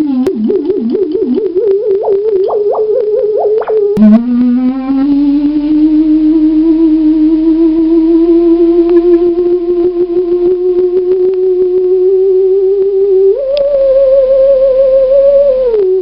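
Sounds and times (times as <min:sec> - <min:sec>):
theremin eerie electronic tones: 0:00.0 - 0:16.0.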